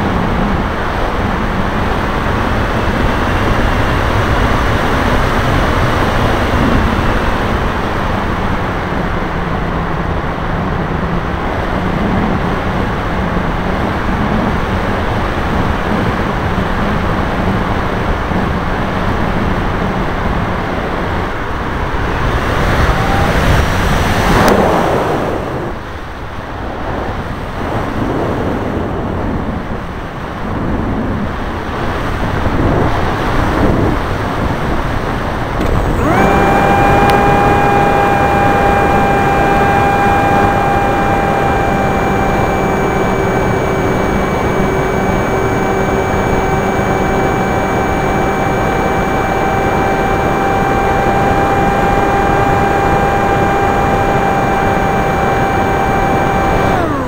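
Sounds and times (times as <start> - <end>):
low motor hum: 0.0 - 26.1, 32.4 - 57.0
wind rushing over microphone: 0.0 - 57.0.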